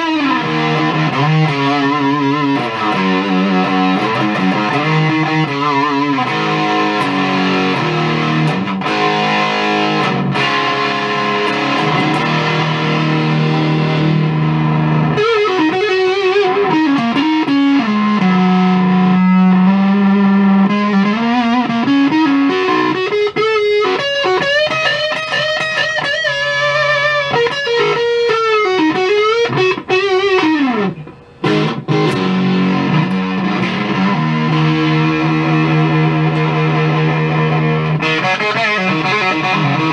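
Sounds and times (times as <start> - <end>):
fuzzed electric guitar: 0.0 - 39.9.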